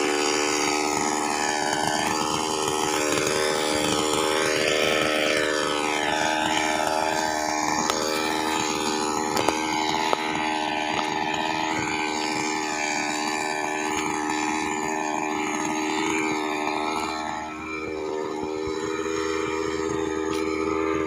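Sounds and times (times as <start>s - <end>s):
chainsaw idling: 0.0s - 21.0s.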